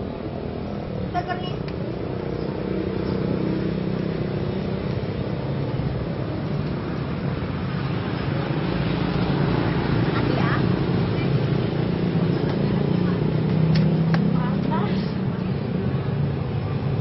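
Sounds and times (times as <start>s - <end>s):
engine hum: 0.0s - 17.0s
traffic rumble: 0.0s - 17.0s.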